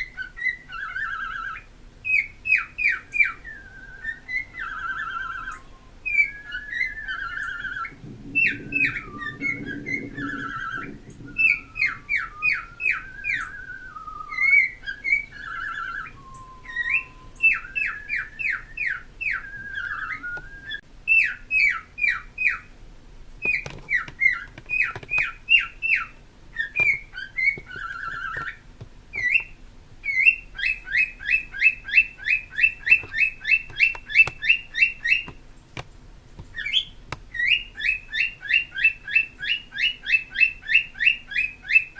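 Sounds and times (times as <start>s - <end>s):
parrots whistling and chirping: 0.0s - 22.8s, 23.4s - 35.4s, 36.4s - 41.9s.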